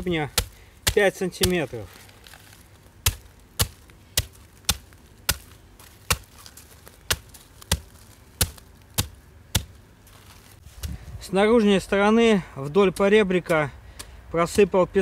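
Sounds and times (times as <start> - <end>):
hand tamper thudding on gravel: 0.0 - 11.0, 12.6 - 14.7.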